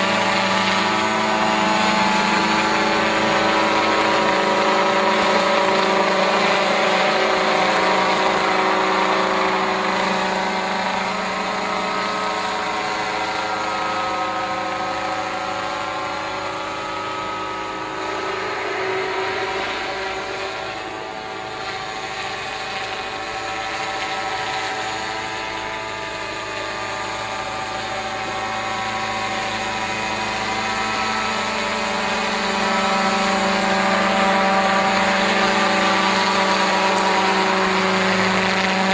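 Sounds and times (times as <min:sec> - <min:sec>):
model helicopter buzzing: 0:00.0 - 0:38.9.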